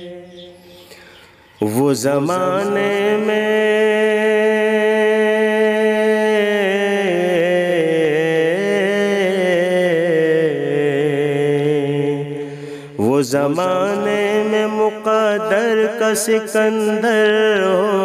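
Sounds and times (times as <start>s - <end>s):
man singing: 0.0s - 0.7s, 1.5s - 18.0s.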